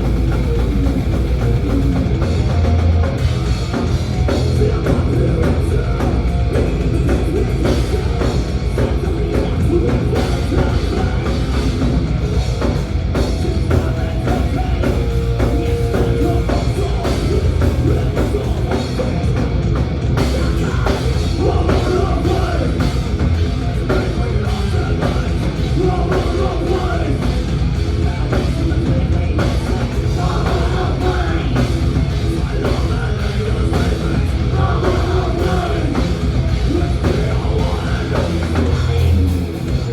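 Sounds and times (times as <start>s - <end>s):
drum kit: 0.0s - 39.9s
thrash metal band playing live: 0.0s - 39.9s.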